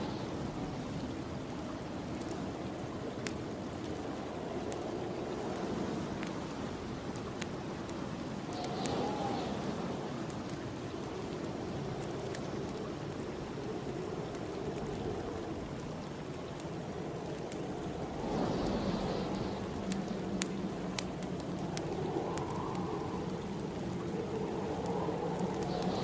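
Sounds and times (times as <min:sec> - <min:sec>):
snowstorm wind blowing: 0:00.0 - 0:26.0
wood fire crackling and popping: 0:00.0 - 0:26.0.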